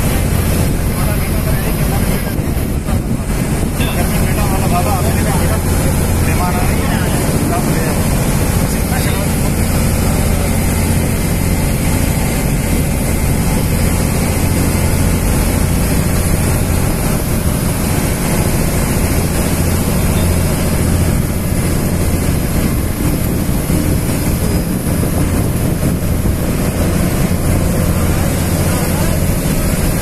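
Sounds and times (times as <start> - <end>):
boat engine droning: 0.0 - 30.0
water rushing along hull: 0.0 - 30.0.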